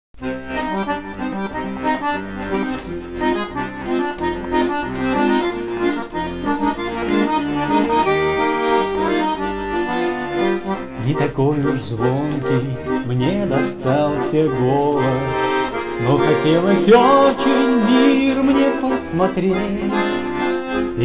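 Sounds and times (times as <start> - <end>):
button accordion playing: 0.2 - 21.0.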